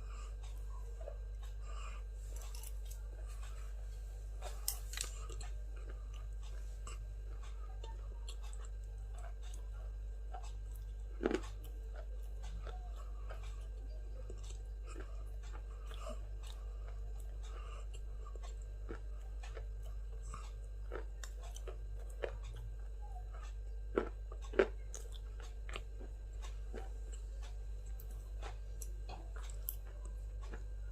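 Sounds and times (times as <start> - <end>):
person chewing crunchy food: 0.0 - 30.9
steady low hum: 0.0 - 30.9.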